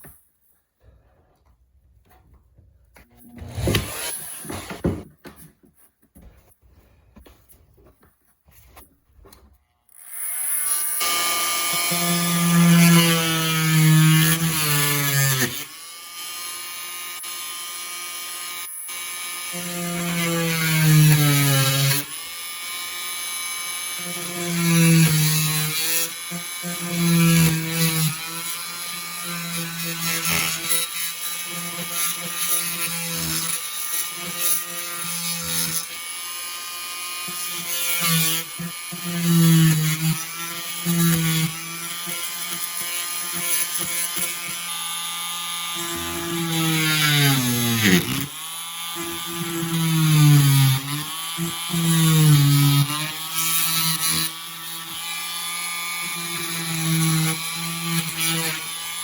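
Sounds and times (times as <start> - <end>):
power tool cutting wall: 3.0 - 5.5, 9.8 - 59.0.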